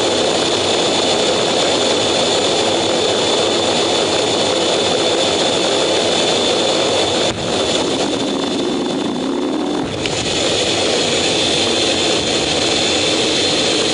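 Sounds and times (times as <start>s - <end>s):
jet engines roaring with high whine: 0.0s - 13.9s.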